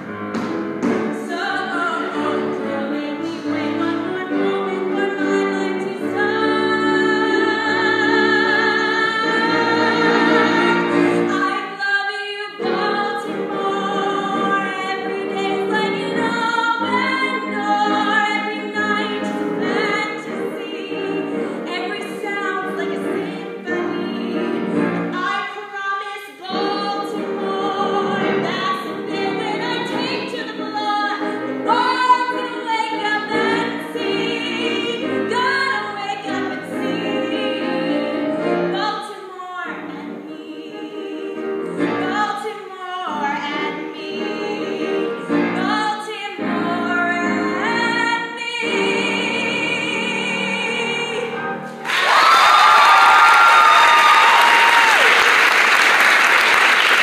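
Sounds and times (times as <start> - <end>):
instrumental accompaniment: 0.0 - 25.6, 26.3 - 52.0
woman singing with vibrato: 1.1 - 55.2.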